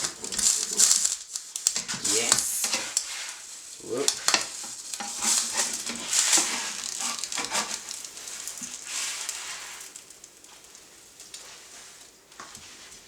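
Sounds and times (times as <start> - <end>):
crepe sizzling in frying pan: 0.0 - 13.0.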